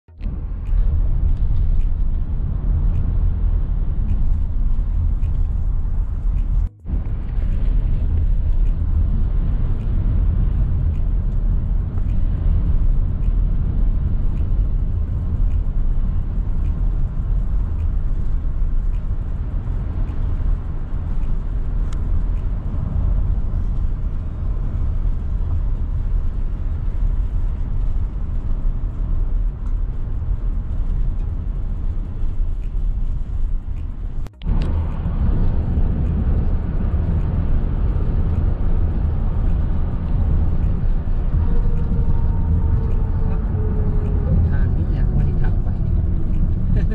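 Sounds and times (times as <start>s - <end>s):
car interior road rumble: 0.1s - 46.9s.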